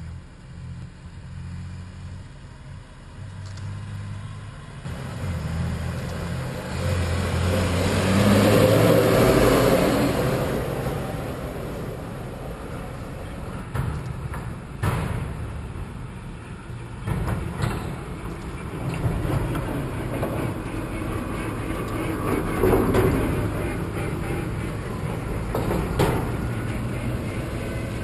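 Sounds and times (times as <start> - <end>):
dump truck diesel engine passing: 0.0 - 28.0.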